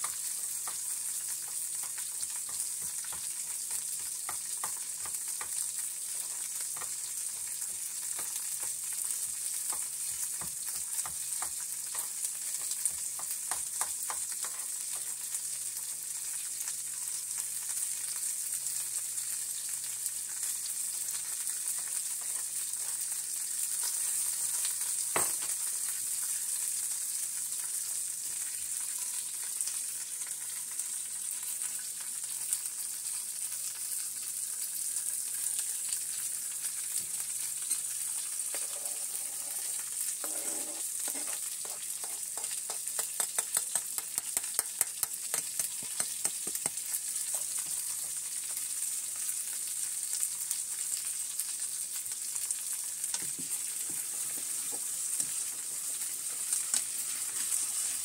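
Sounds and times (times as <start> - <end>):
food sizzling in a pot: 0.0 - 58.0.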